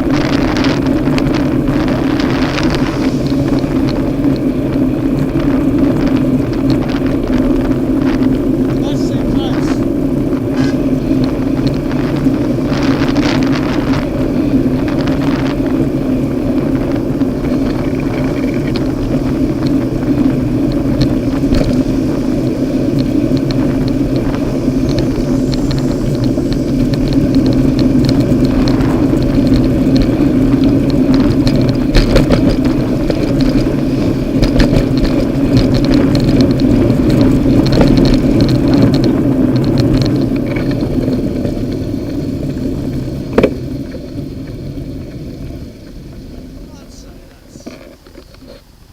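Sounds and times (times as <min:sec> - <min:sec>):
road traffic: 0:00.0 - 0:48.9
vehicle engine rumbling: 0:00.0 - 0:48.9.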